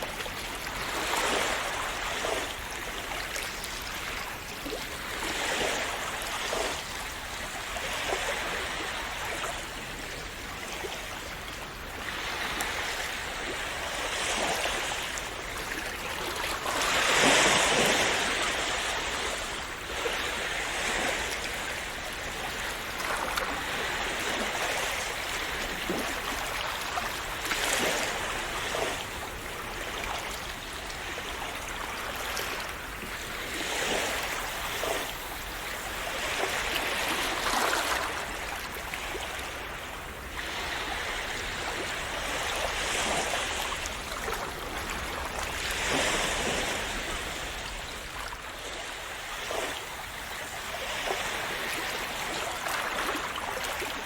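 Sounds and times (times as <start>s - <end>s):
sea waves washing on shore: 0.0s - 54.0s.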